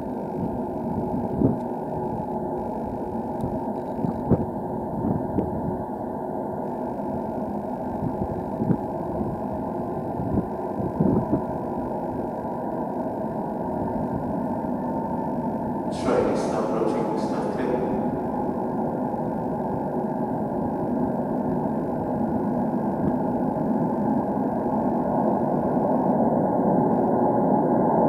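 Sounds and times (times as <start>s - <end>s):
low rumble of underground railway: 0.0s - 28.0s.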